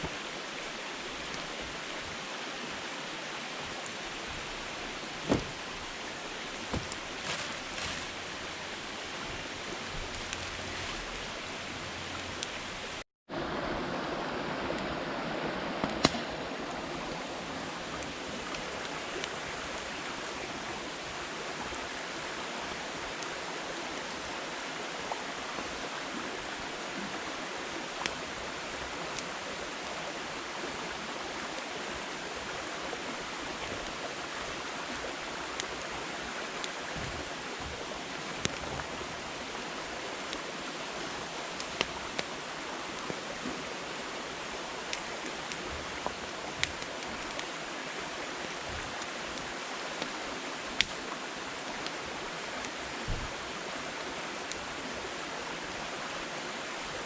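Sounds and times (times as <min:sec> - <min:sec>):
campfire hiss: 0:00.0 - 0:57.0
fire crackles and pops: 0:03.8 - 0:13.0, 0:15.8 - 0:22.1, 0:25.0 - 0:56.5.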